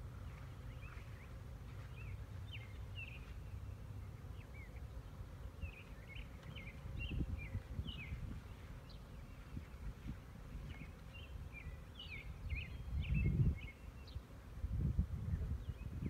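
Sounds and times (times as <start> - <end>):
songbird chirping: 0.0 - 14.4.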